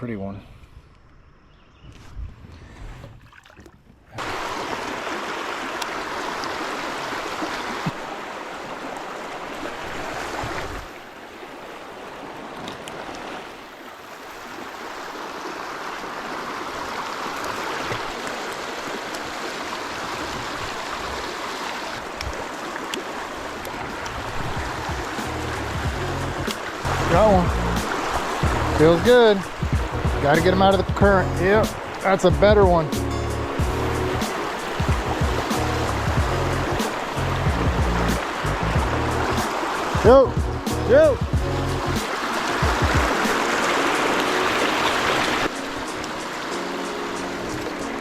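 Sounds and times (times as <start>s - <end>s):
river water rushing: 4.2s - 48.0s.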